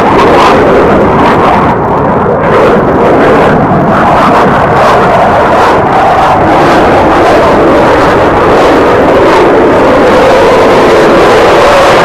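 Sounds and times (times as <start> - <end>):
aircraft engine roar: 0.0 - 12.0.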